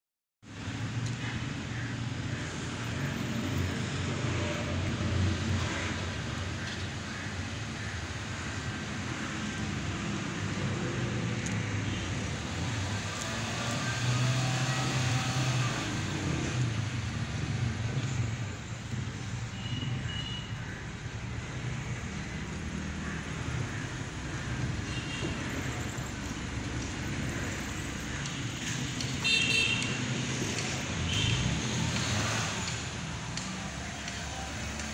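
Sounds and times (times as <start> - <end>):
low rumble of motor vehicles: 0.4 - 34.9.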